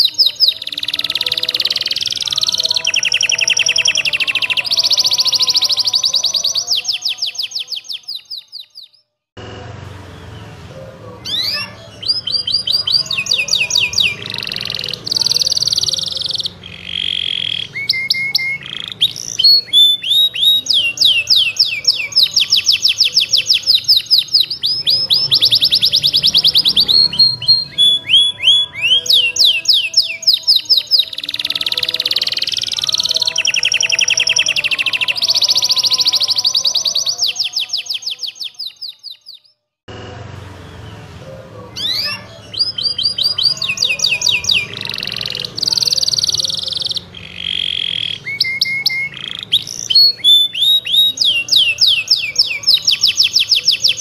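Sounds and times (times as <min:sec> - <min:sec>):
canary singing trills: 0:00.0 - 0:09.1, 0:10.2 - 0:39.6, 0:40.5 - 0:54.0.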